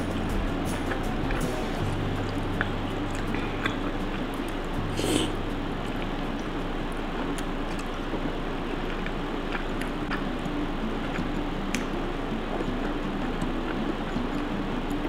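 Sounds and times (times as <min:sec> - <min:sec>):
slurping and chewing noodles: 0:00.0 - 0:15.0
steady low hum: 0:00.0 - 0:15.0
wet mouth clicks: 0:00.0 - 0:15.0.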